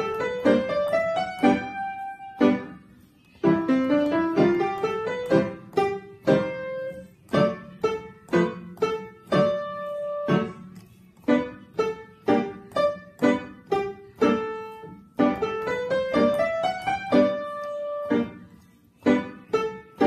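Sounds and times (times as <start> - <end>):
upright piano playing: 0.0 - 20.0.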